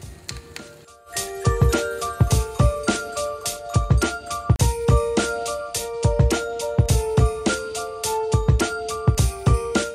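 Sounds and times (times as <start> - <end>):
held chords: 0.8 - 9.9.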